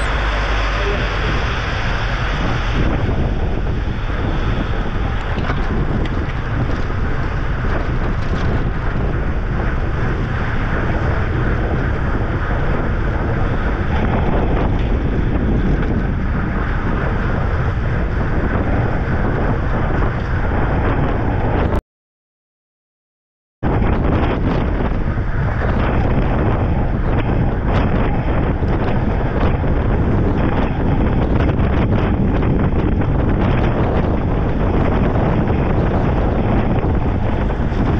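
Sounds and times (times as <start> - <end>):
road noise: 0.0 - 21.8, 23.6 - 37.9
wind buffeting microphone: 0.0 - 21.8, 23.6 - 37.9.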